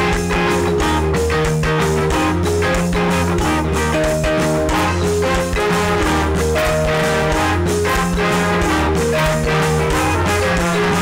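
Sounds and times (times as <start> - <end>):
drums: 0.0 - 11.0
electric guitar: 0.0 - 11.0.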